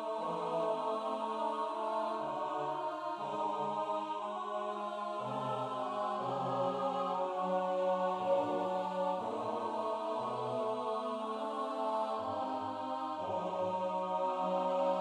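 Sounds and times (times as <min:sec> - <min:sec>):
a cappella choir singing chords: 0:00.0 - 0:15.0.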